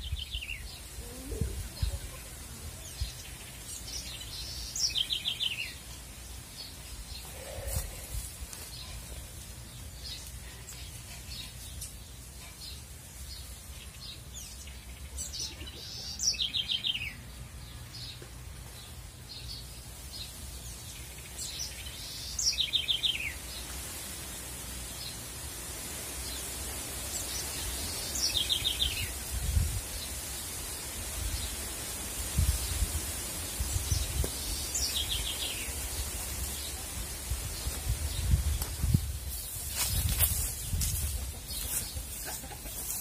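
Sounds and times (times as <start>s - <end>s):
songbird singing: 0.0s - 43.0s.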